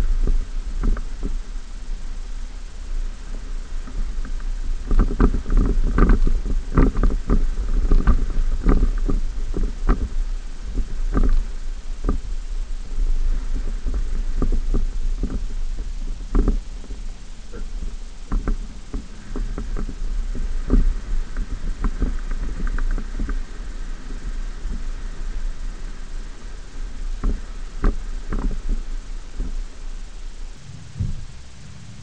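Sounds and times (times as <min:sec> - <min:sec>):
truck engine running low: 0:03.2 - 0:32.0.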